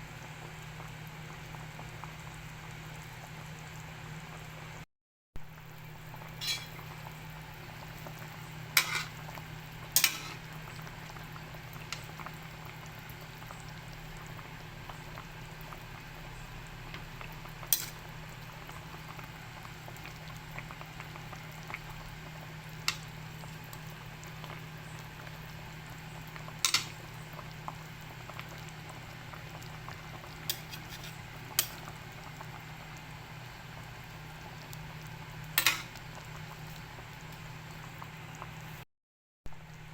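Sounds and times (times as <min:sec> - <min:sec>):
pan bubbling: 0:05.6 - 0:38.4.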